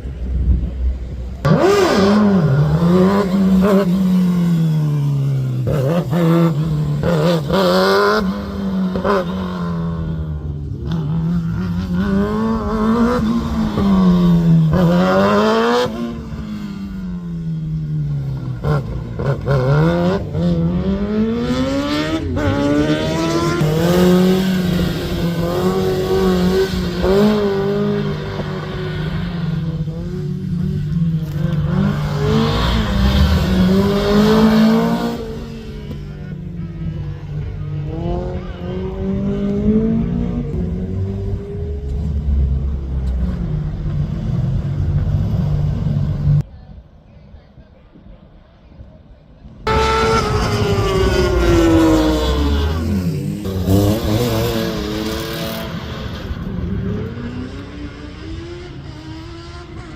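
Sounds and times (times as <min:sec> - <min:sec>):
rally car engine revving: 0:01.0 - 0:46.4, 0:49.6 - 0:59.9.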